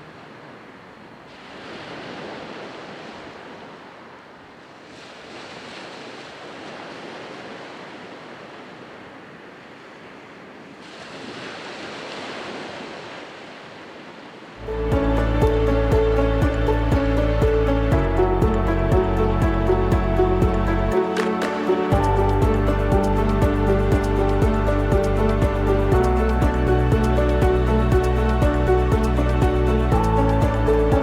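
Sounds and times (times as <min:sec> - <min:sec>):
ocean waves breaking on shore: 0:00.0 - 0:31.0.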